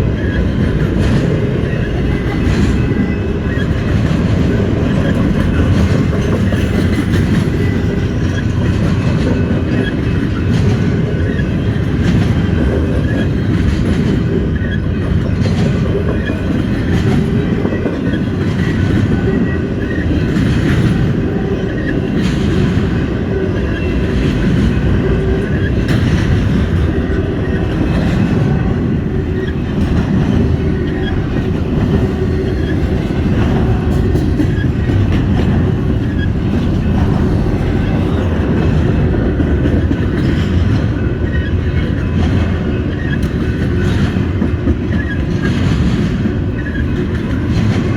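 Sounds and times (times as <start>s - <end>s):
freight train rumbling: 0.0s - 47.9s
wheels clicking over rail joints: 0.0s - 47.9s.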